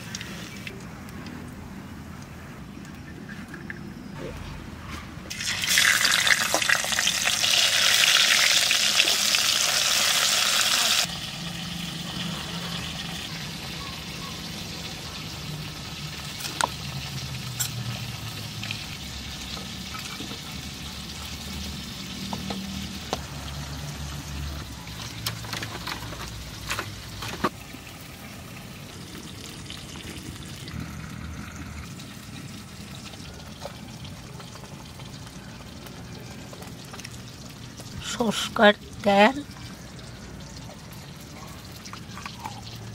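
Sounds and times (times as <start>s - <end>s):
fish sizzling in hot oil: 5.3s - 25.6s, 26.3s - 42.9s.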